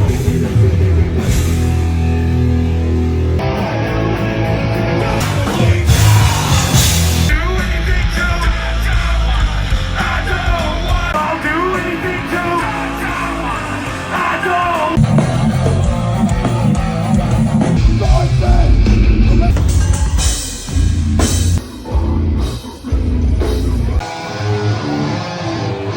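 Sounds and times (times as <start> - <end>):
punk rock music with singer: 0.0 - 25.9.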